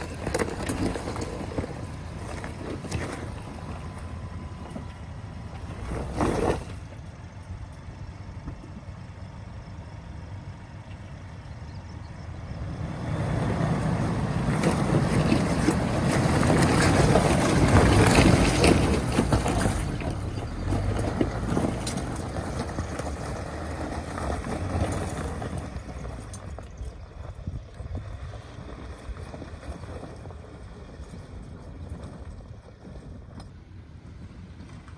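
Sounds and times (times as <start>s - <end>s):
rocks crunching under tyres: 0.0s - 10.0s, 10.6s - 34.9s
truck engine pulling uphill: 0.0s - 34.9s.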